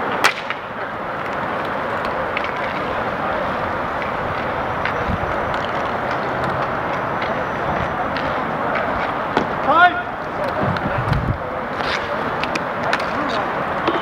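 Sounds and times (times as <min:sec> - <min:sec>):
hockey sticks and puck clicking: 0:00.0 - 0:07.5, 0:08.1 - 0:09.6, 0:11.7 - 0:14.0
skate wheels rolling: 0:00.0 - 0:14.0.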